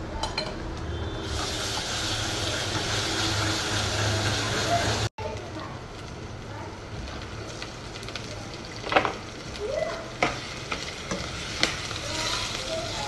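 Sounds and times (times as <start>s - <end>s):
liver sizzling in hot oil: 1.2s - 13.0s.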